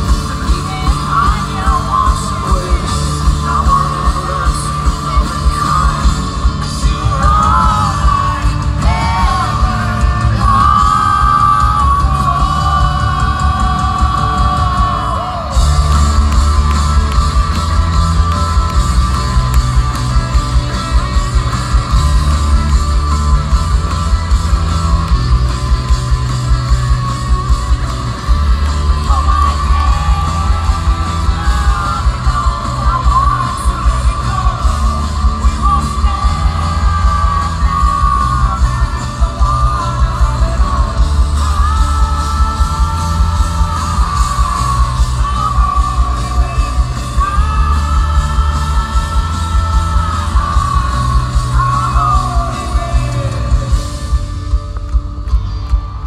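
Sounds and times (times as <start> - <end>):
person singing: 0.0 - 54.7
driving drum beat: 0.0 - 56.0
folk rock band playing loudly: 0.0 - 56.0.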